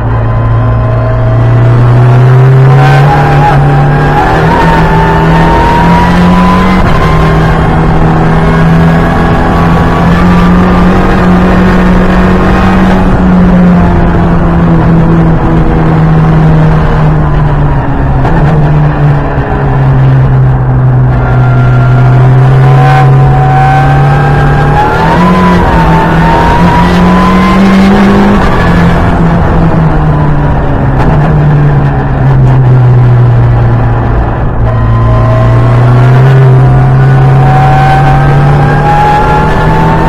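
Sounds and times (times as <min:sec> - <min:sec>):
car engine running under load: 0:00.0 - 0:40.0.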